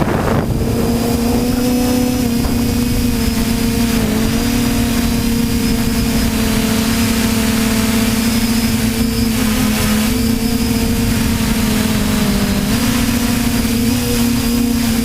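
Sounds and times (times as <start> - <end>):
quadcopter propellers humming: 0.0 - 15.0.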